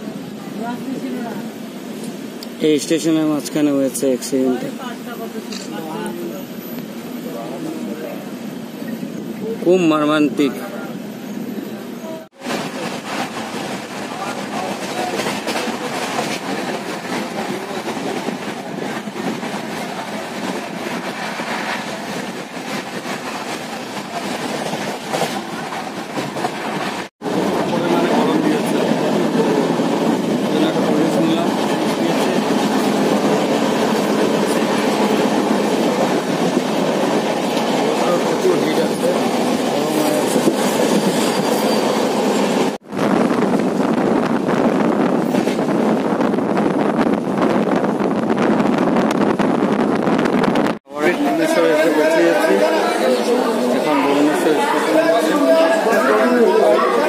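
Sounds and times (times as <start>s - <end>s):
train carriage rumbling on track: 0.0s - 57.0s.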